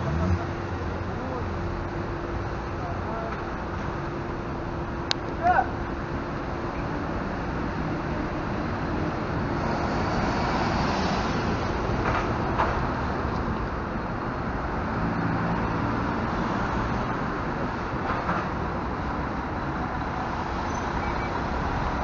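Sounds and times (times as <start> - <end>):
bus diesel engine passing: 0.0 - 22.0.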